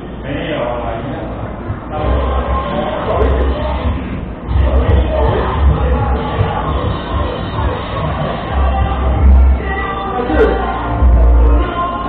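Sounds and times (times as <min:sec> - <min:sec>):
loud music with heavy bass beat: 0:01.6 - 0:11.9.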